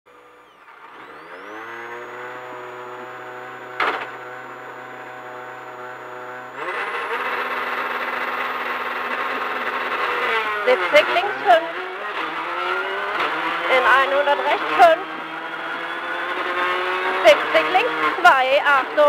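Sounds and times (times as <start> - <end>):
rally car engine revving: 0.1 - 19.0.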